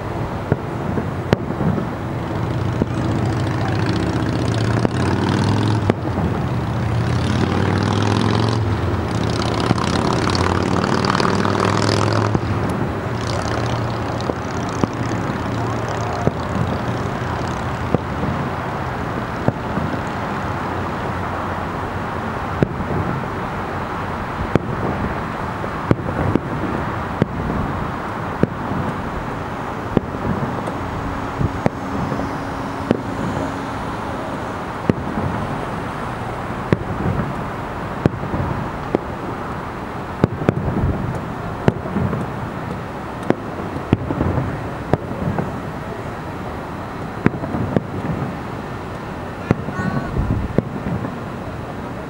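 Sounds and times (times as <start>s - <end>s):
distant fireworks bangs: 0.0s - 52.0s.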